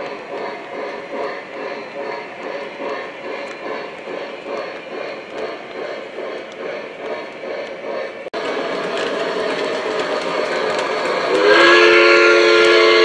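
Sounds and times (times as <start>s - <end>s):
model steam locomotive chuffing: 0.0s - 13.0s
rumble of wheels on track: 0.0s - 13.0s.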